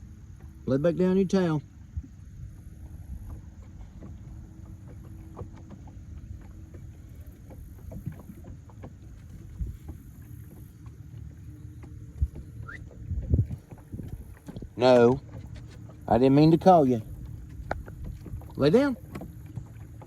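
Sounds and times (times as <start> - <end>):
faint steady hum: 0.0 - 20.0
steady low rumble: 1.6 - 19.1.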